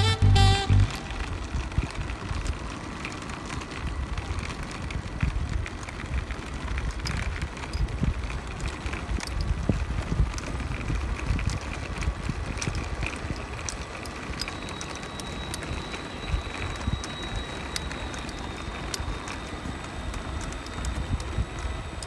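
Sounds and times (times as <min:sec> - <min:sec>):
toy truck wheels crackling on concrete: 0:00.0 - 0:22.0
wind rumbling on microphone: 0:00.8 - 0:22.0.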